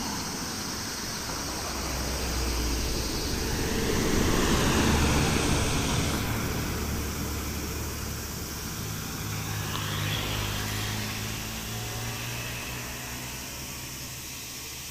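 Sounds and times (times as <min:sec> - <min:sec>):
bus engine rumbling: 0:00.0 - 0:14.9
scooter passing by: 0:00.0 - 0:14.9.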